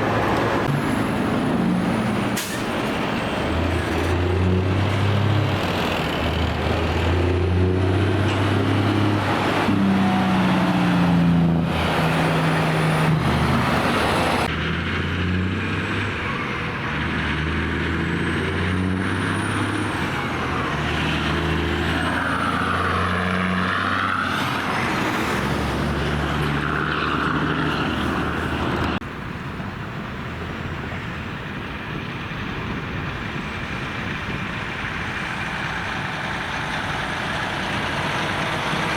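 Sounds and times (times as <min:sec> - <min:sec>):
diesel truck engines passing: 0:00.0 - 0:38.9.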